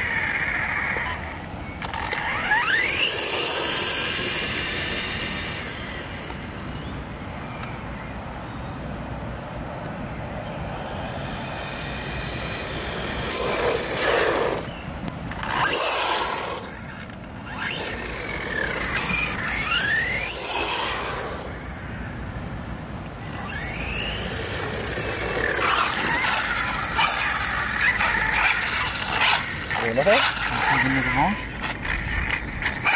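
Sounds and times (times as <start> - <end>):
electric motor whine: 0.0 - 7.1, 10.4 - 32.9.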